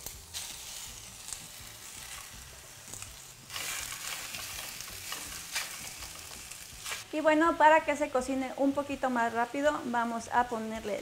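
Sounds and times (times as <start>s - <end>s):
chicken sizzling in a pan: 0.0s - 9.4s.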